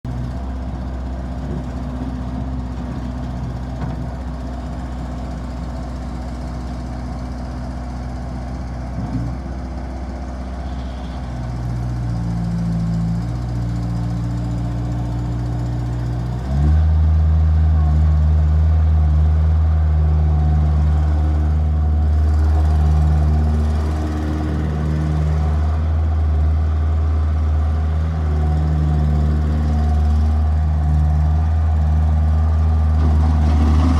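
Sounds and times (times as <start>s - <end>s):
diesel engine idling and revving: 0.0s - 33.9s.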